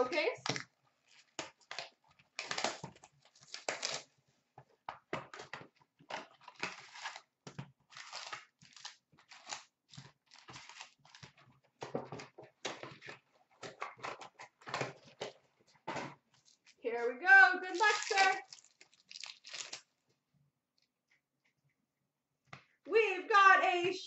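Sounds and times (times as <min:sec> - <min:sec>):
cardboard and wrappers rustling: 0:00.1 - 0:20.0.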